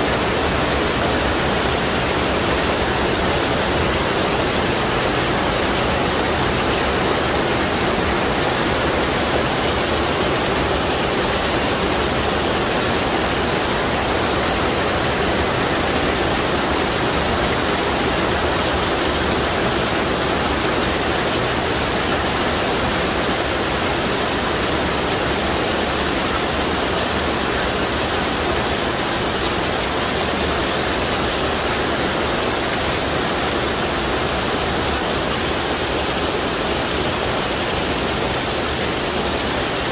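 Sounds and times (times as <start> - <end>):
heavy rain on paving: 0.0 - 39.9
water pouring off roof edge: 0.0 - 39.9.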